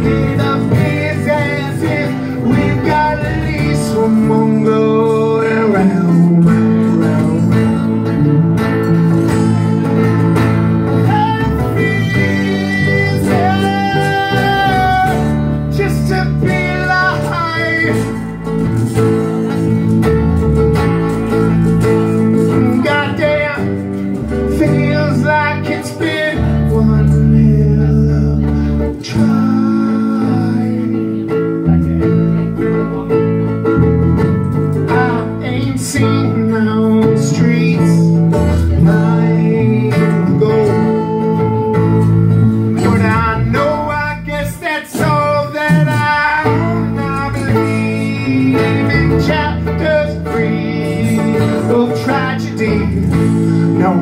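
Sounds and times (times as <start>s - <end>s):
man singing: 0.0s - 20.1s, 20.9s - 33.8s, 34.4s - 54.0s
acoustic guitars strumming: 0.0s - 54.0s.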